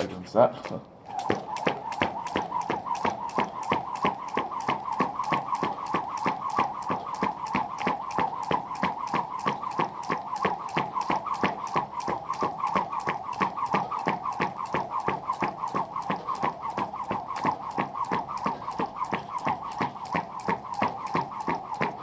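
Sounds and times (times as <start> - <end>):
jump rope clicks: 0.0 - 22.0
jump rope whir: 0.0 - 22.0.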